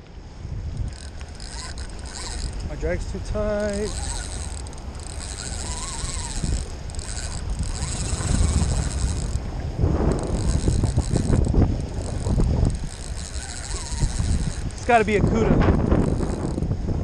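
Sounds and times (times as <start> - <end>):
wind on microphone: 0.0 - 17.0
fishing reel drag buzzing: 0.6 - 17.0
reel clicking: 0.7 - 16.8.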